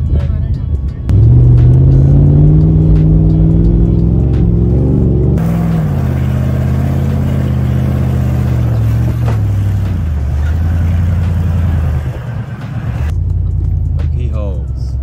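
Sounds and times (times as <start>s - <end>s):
car engine under load: 1.1s - 14.1s.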